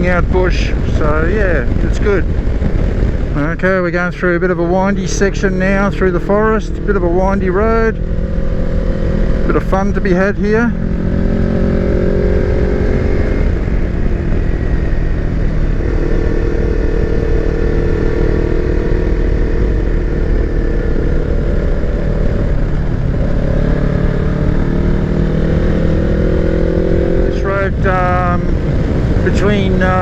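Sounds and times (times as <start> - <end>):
motorcycle engine running: 0.0 - 30.0
wind rumble: 0.0 - 30.0.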